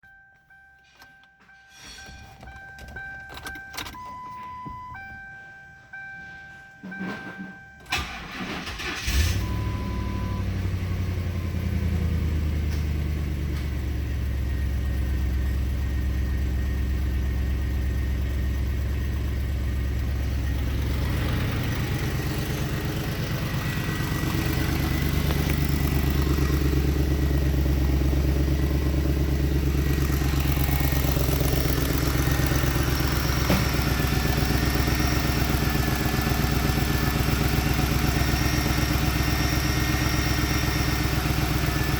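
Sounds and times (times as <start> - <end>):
car engine idling: 6.7 - 41.9.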